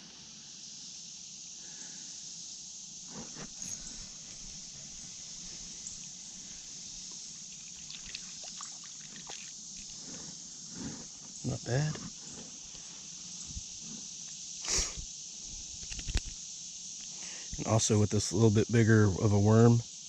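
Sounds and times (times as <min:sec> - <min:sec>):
high-pitched creek-side hiss: 0:00.0 - 0:20.0.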